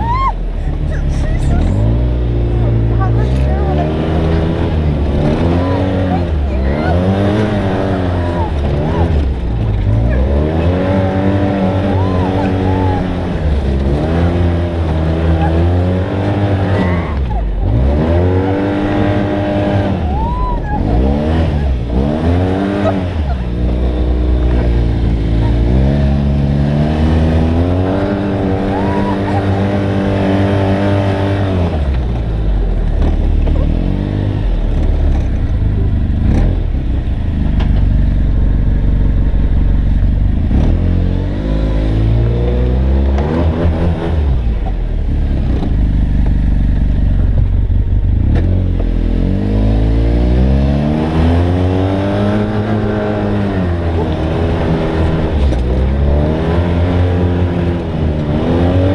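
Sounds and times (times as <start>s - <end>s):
vehicle engine accelerating: 0.0s - 58.9s.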